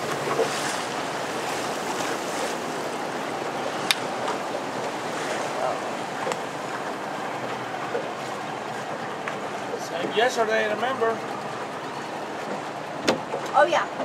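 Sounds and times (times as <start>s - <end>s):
water rushing past boat: 0.0s - 14.0s.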